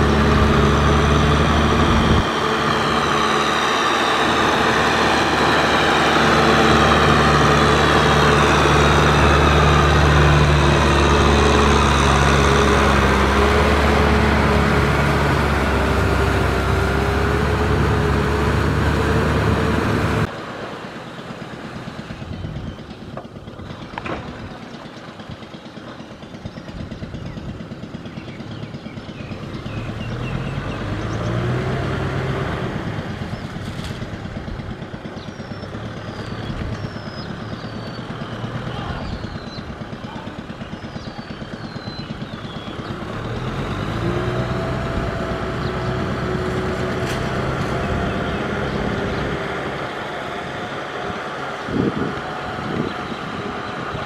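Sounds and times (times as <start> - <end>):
rotary tiller churning mud: 0.0 - 54.0
tractor diesel engine running: 0.0 - 54.0.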